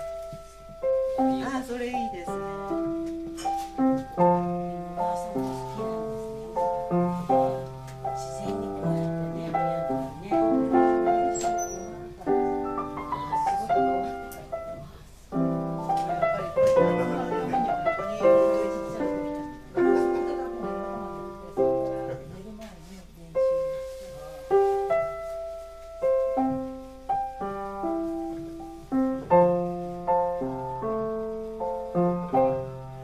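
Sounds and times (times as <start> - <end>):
upright piano playing: 0.0 - 33.0.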